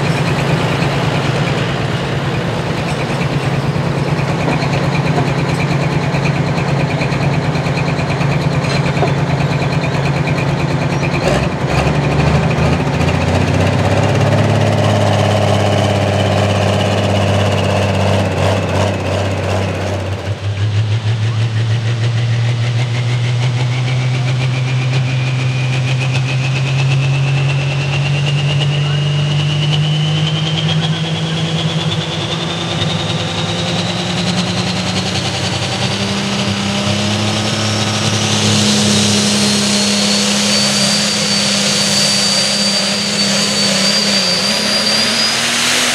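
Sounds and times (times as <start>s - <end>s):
rising whine: 0.0s - 7.2s, 12.1s - 45.9s
tractor diesel engine under load: 0.0s - 45.9s
tractor engine steady pitch: 0.0s - 45.9s.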